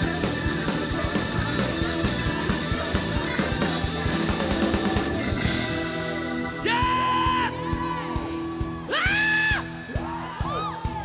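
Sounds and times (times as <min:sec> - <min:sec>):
live band music: 0:00.0 - 0:11.0
steady drum beat: 0:00.0 - 0:11.0.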